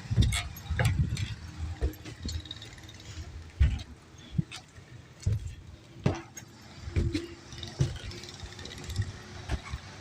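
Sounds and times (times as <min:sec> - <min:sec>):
knocks and metallic clinks: 0:00.0 - 0:10.0.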